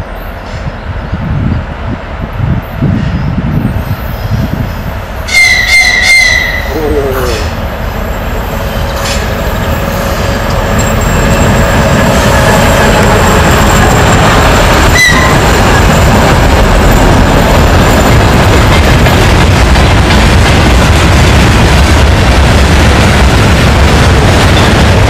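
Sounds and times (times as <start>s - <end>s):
diesel locomotive passing: 0.0s - 25.0s.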